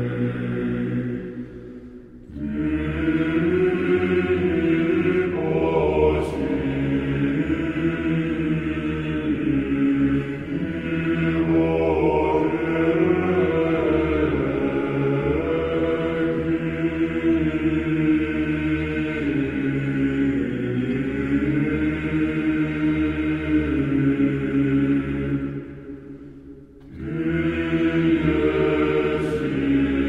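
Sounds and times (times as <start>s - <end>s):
choral chanting with held chords: 0.0s - 30.0s.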